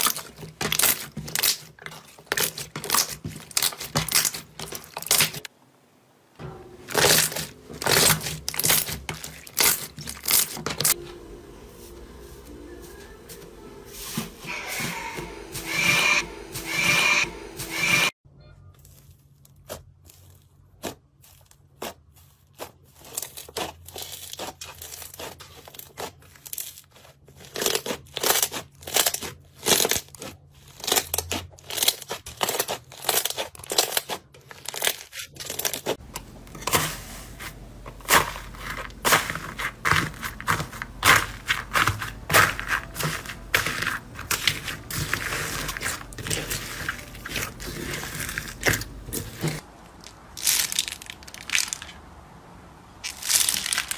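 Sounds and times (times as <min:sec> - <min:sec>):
slime crackling and crunching: 0:00.0 - 0:05.5, 0:06.9 - 0:11.0, 0:18.8 - 0:52.0, 0:53.0 - 0:53.9.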